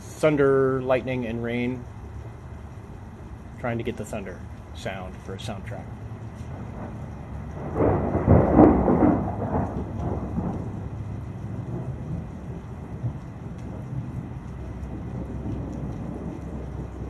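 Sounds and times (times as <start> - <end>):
steady rain: 0.0 - 17.0
thunder cracking and rolling: 0.2 - 17.0.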